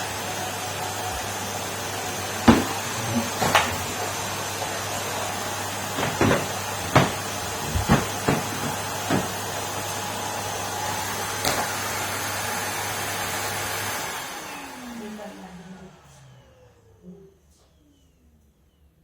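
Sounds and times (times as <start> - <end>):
vacuum cleaner running: 0.0 - 18.8.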